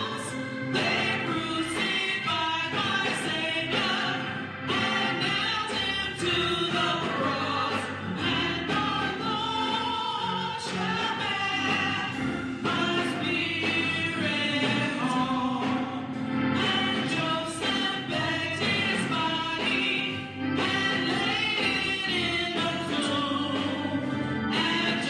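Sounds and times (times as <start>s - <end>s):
gospel choir singing: 0.0s - 25.0s.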